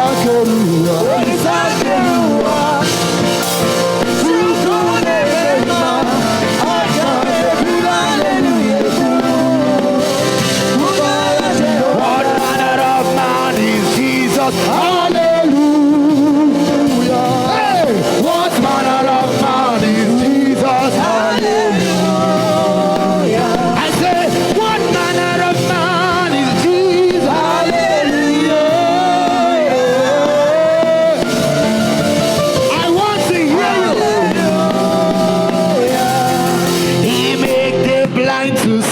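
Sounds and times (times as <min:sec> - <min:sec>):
band playing chords: 0:00.0 - 0:38.9
person singing gospel: 0:00.0 - 0:38.9.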